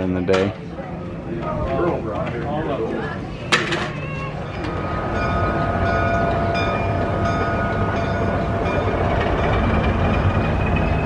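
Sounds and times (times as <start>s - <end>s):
faint hum: 0.0s - 11.0s
low mechanical rumble: 0.0s - 11.0s.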